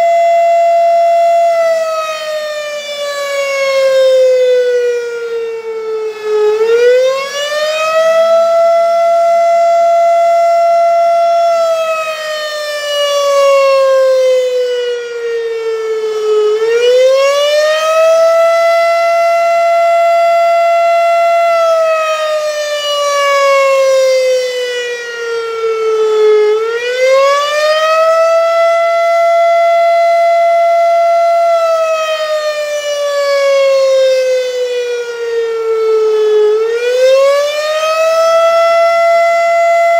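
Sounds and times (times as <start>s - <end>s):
rotating siren wailing: 0.0s - 39.9s.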